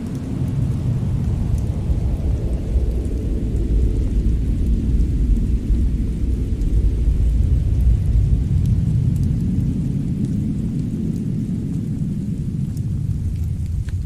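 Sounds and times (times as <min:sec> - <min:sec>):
fire crackling: 0:00.0 - 0:14.0
fireplace low rumble: 0:00.0 - 0:14.0.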